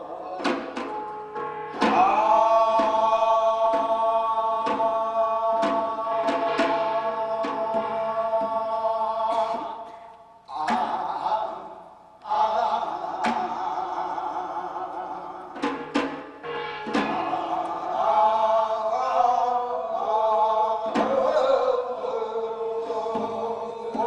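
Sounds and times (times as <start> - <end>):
percussion strokes: 0.0 - 11.4, 12.2 - 24.0.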